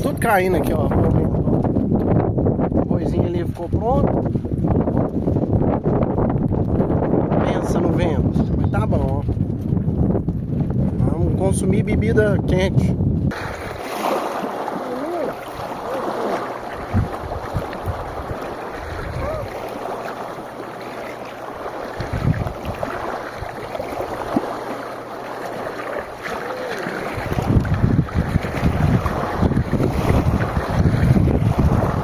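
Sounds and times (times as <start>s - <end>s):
wind on microphone: 0.0s - 24.8s, 25.4s - 32.0s.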